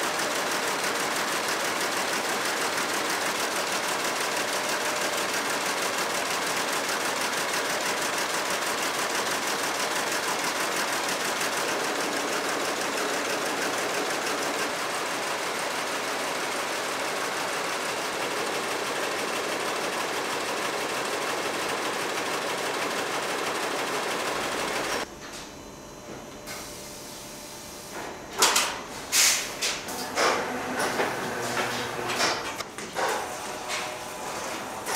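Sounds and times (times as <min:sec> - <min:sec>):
power loom clattering: 0:00.0 - 0:25.0, 0:29.9 - 0:34.9.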